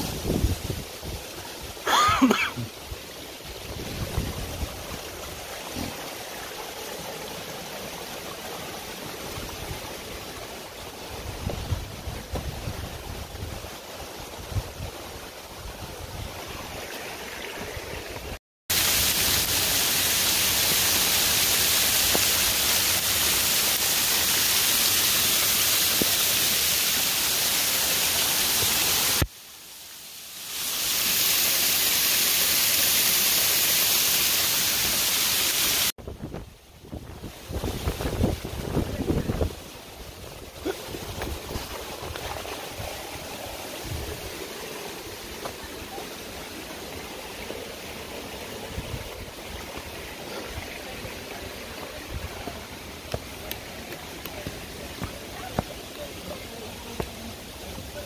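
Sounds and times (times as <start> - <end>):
waterfall rushing: 0.0 - 36.2, 37.2 - 58.0.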